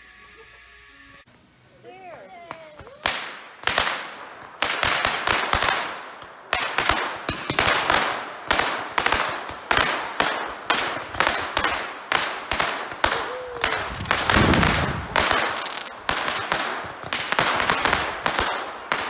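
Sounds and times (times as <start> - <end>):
aerial fireworks bangs: 3.0 - 19.0.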